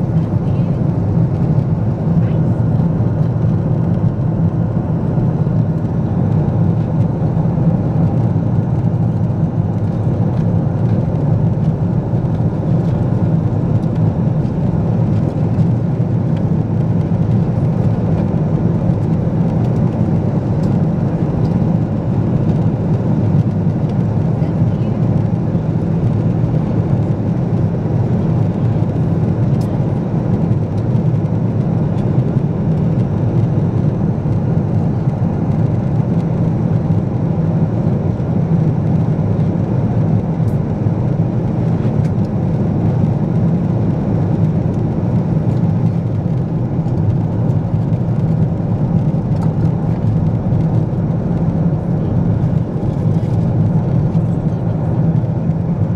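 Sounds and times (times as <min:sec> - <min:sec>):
airliner cabin engine noise: 0:00.0 - 0:55.9.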